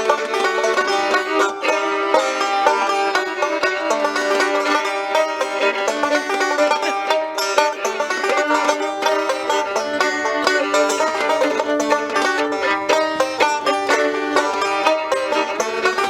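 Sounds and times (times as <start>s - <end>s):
plucked acoustic folk strings: 0.0s - 16.0s.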